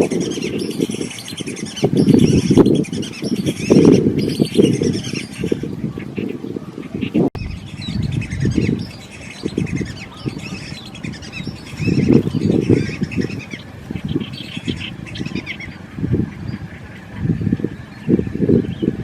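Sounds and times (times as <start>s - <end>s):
birds chirping: 0.0s - 19.0s
low rumbles: 0.0s - 19.0s.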